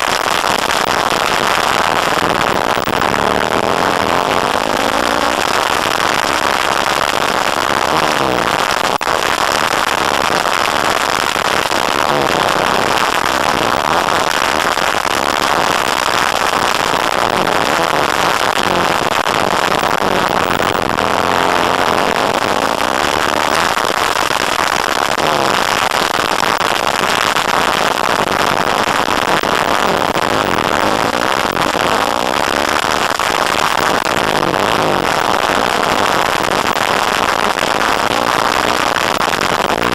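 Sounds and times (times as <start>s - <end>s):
dense rattling noise: 0.0s - 39.9s.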